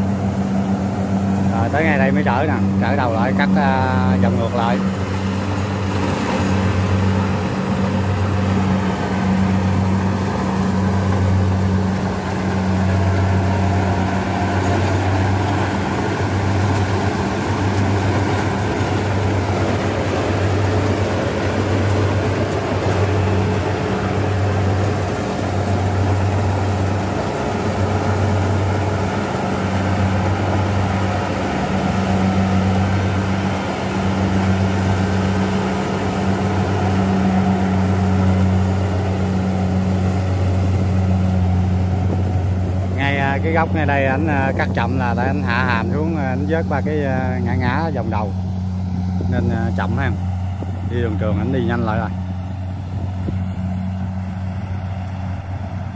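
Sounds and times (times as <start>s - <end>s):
diesel engine humming: 0.0s - 55.9s
harvester threshing machinery: 0.1s - 55.9s.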